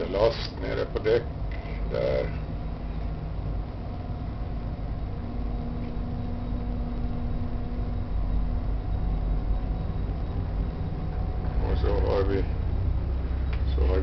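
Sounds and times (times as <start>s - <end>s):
ship engines droning: 0.0s - 14.0s.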